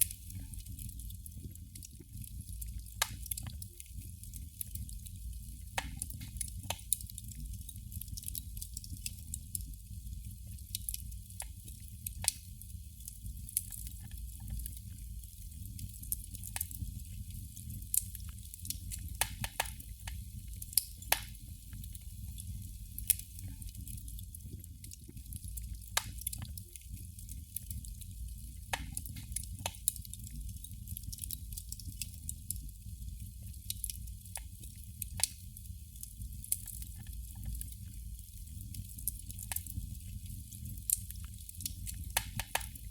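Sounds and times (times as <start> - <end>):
candle flame crackling: 0.0 - 42.9.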